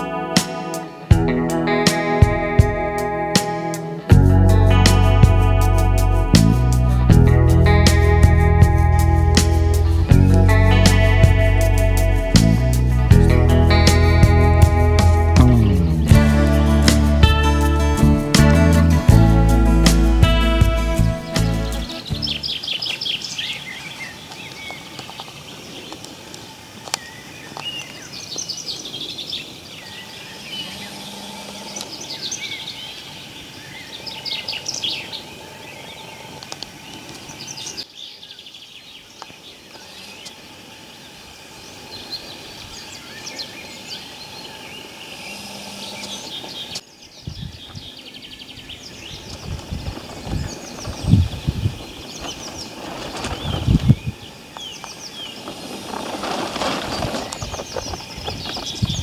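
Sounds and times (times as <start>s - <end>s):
songbirds singing and chirping: 7.6s - 59.0s.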